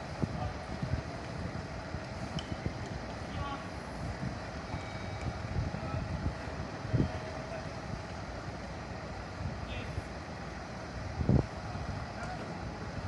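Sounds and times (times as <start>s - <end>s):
vehicle engine rumbling: 0.0s - 13.0s
wind buffeting microphone: 0.0s - 13.0s.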